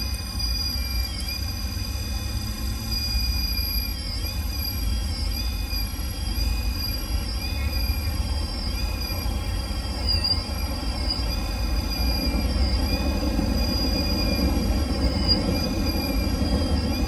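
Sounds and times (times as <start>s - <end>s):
electric motor whining under load: 0.0s - 17.0s
steady low rumble: 1.0s - 17.0s.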